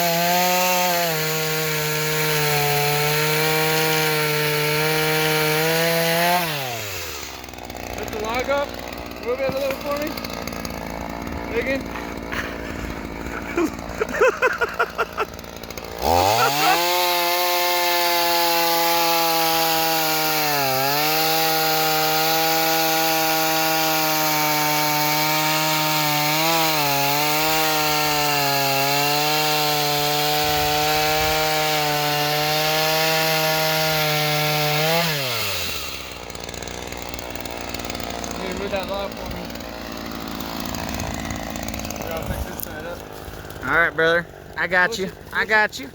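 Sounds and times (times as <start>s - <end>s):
chainsaw cutting a log: 0.0s - 45.9s.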